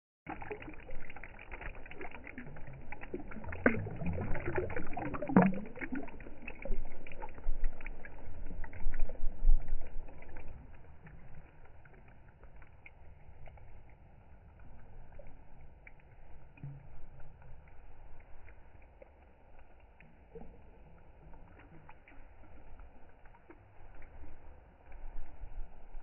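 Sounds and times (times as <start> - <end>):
water lapping at the shore: 0.3 - 25.0.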